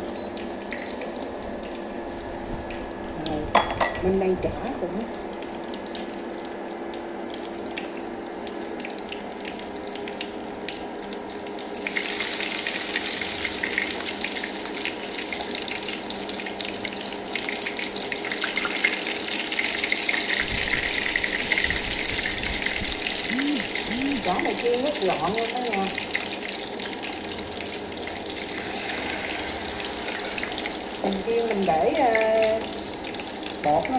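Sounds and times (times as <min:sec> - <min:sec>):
batter frying in hot oil: 0:00.0 - 0:33.9.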